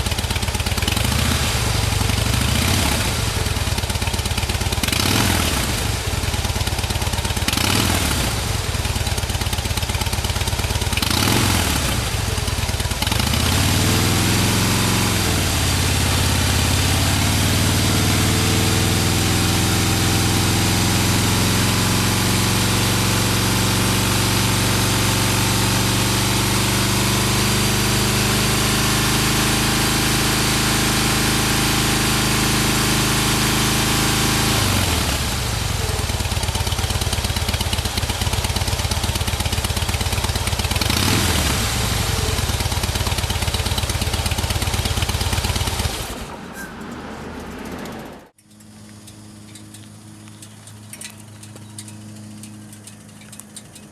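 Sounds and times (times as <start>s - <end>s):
motorcycle engine idling: 0.0s - 53.9s
motorcycle engine revving: 0.0s - 53.9s.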